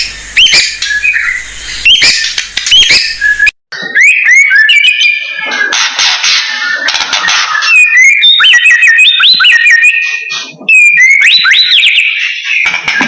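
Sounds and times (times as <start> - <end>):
songbird whistling: 0.0 - 5.4, 7.5 - 12.7.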